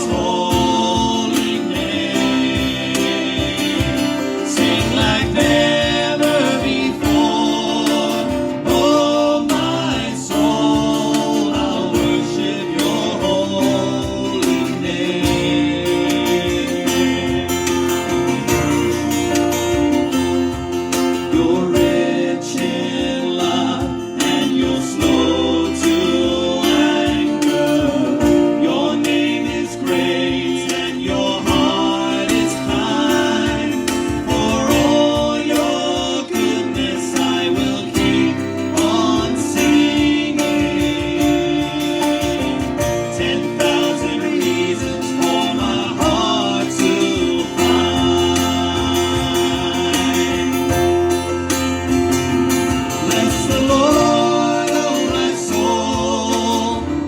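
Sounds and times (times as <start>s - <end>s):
guitar playing: 0.0s - 57.0s
person singing: 0.0s - 57.0s.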